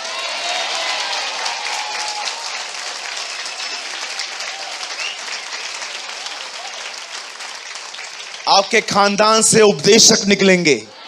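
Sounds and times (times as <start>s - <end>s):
congregation clapping: 0.0s - 10.9s.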